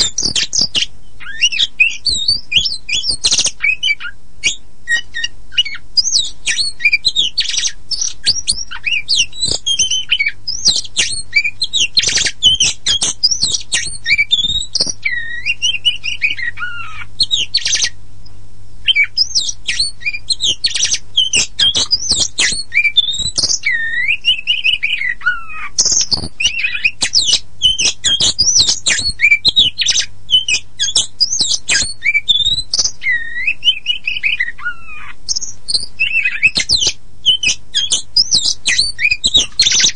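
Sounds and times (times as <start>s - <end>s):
bird singing varied whistles: 0.0s - 18.0s, 18.8s - 39.9s.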